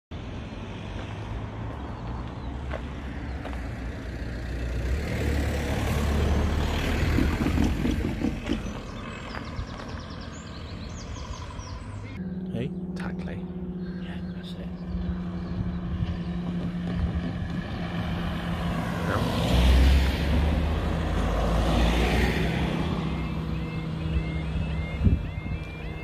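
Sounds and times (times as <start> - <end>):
vehicle passing by: 0.2 - 26.0.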